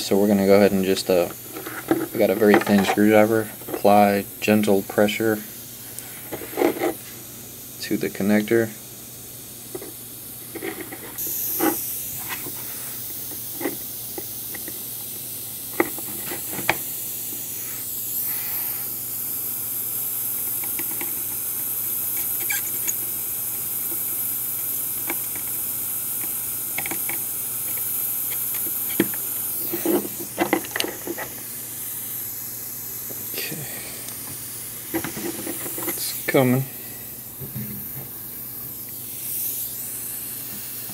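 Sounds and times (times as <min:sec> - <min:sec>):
soldering iron flame hissing: 0:00.0 - 0:40.9.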